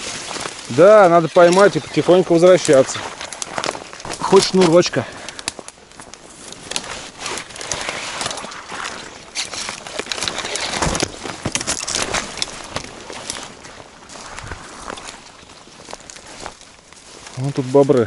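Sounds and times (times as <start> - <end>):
footsteps through dry undergrowth: 0.0 - 18.0
twigs snapping: 0.0 - 18.0.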